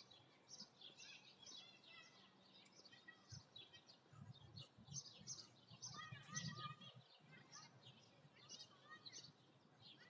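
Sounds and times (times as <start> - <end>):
birds chirping and trilling: 0.0 - 10.0.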